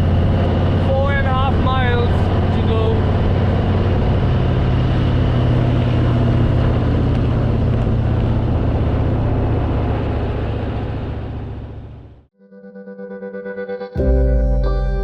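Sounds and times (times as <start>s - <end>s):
motorcycle engine running: 0.0s - 12.3s
wind and road noise: 0.0s - 12.3s.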